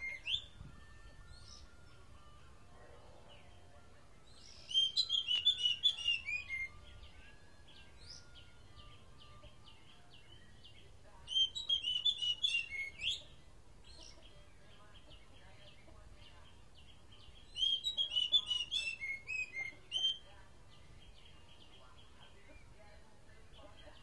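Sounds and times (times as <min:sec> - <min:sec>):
bird singing whistled notes: 0:00.0 - 0:02.7, 0:03.3 - 0:23.0.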